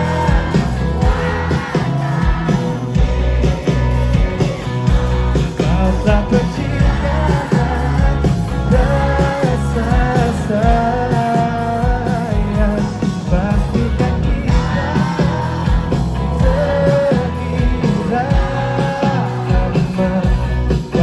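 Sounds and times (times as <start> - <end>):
live pop-rock band playing: 0.0 - 21.0
steady drum beat: 0.0 - 21.0.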